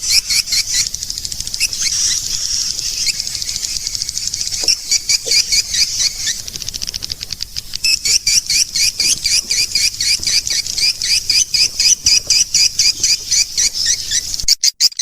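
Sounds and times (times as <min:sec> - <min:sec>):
sharp clicking chirps: 0:00.0 - 0:15.0.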